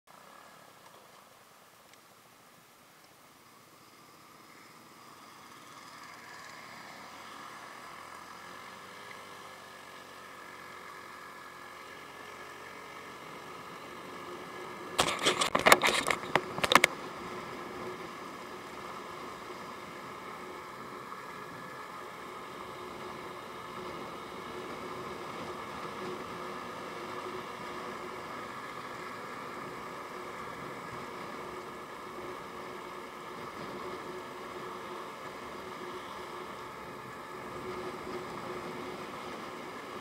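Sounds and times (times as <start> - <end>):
scooter engine droning: 4.7 - 40.0.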